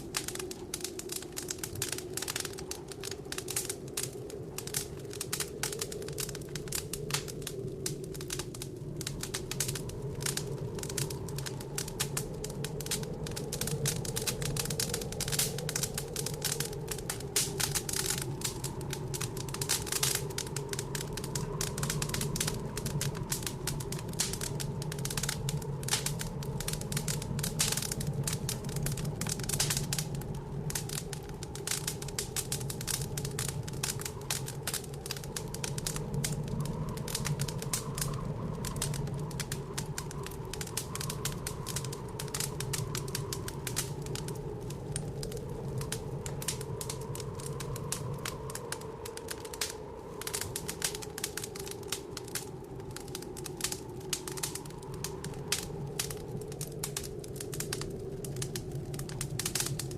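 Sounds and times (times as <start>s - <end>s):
blizzard wind drone: 0.0s - 59.9s
wood fire crackling: 0.0s - 59.9s.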